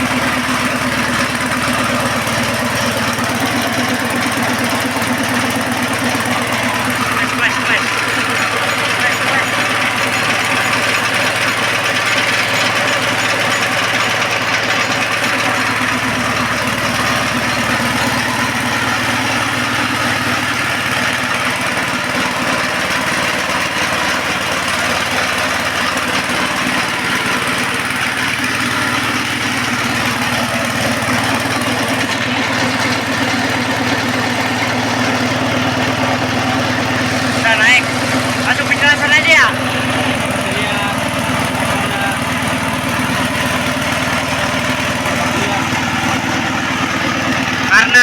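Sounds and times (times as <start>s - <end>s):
small petrol engine running: 0.0s - 48.0s.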